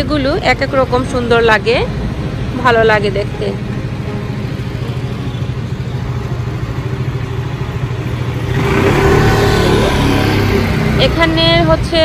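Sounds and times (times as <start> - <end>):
vehicle engine running: 0.6 - 12.0.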